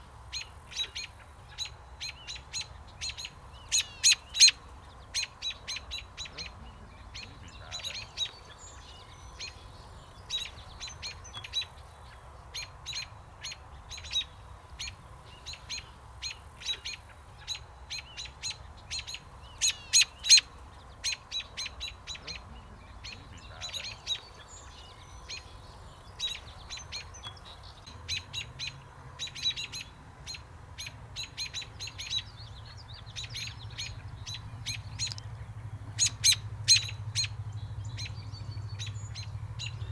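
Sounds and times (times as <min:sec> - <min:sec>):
robins alarm calls: 0:00.3 - 0:39.9.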